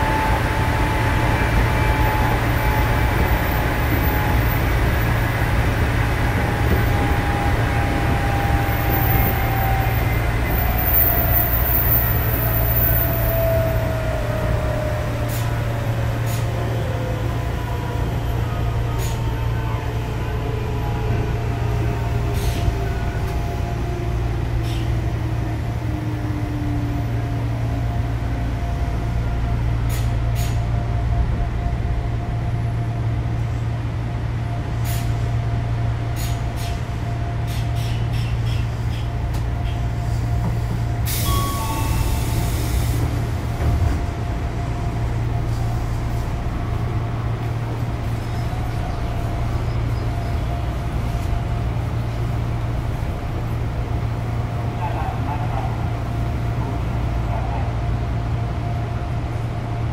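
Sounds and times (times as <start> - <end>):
electric train low hum: 0.0 - 59.9.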